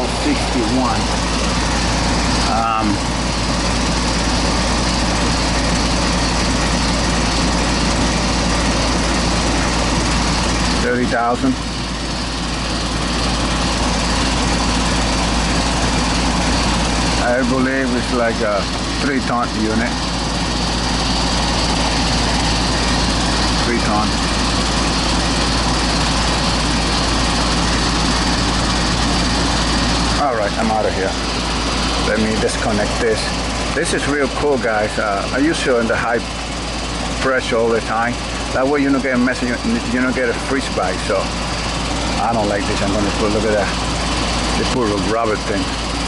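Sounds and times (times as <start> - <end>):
condenser fan rushing: 0.0 - 46.0
low compressor hum: 0.0 - 46.0.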